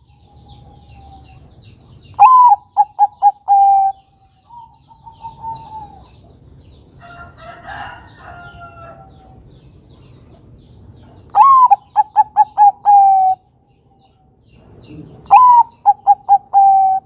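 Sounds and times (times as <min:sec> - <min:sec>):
dove cooing song: 0:00.0 - 0:09.4, 0:10.3 - 0:13.5, 0:14.1 - 0:17.0.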